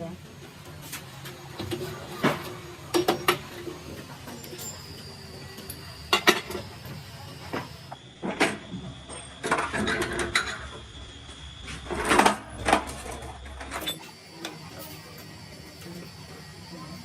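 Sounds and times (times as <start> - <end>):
faint high whine: 0.0 - 17.0.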